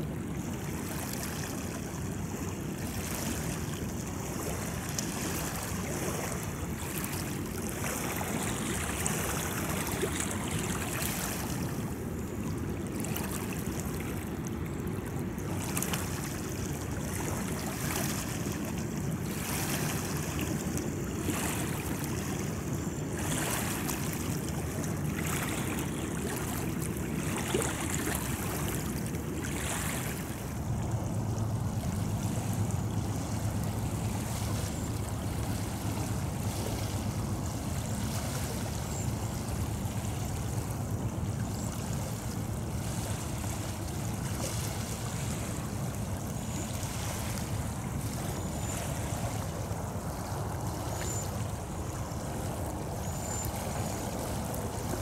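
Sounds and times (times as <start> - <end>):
water lapping: 0.0 - 55.0.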